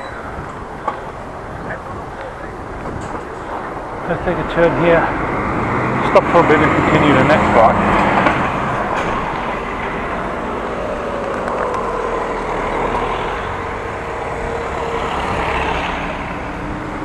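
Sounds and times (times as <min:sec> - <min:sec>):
cars going by: 0:00.0 - 0:17.0.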